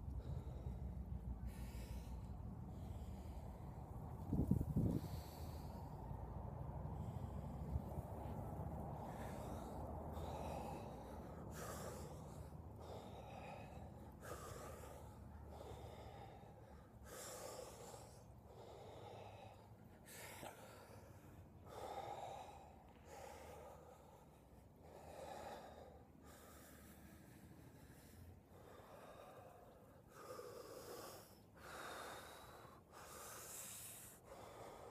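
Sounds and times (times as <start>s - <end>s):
person breathing deeply: 0.0s - 34.9s.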